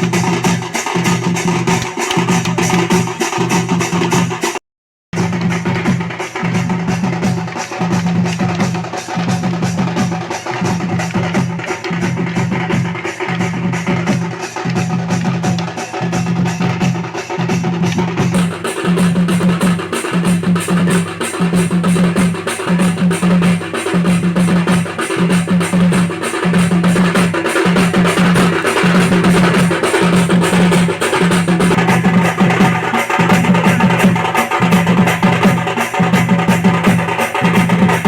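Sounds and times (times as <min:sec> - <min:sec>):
drum-heavy music: 0:00.0 - 0:04.6, 0:05.2 - 0:38.0.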